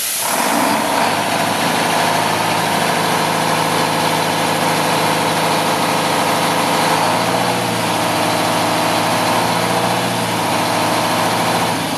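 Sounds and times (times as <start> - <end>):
diesel engine idling: 0.0 - 11.9.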